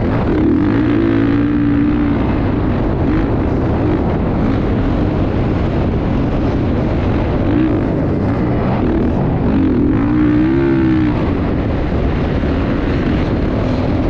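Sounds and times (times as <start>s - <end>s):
dirt bike engine: 0.0s - 14.0s
wind noise on microphone: 0.0s - 14.0s.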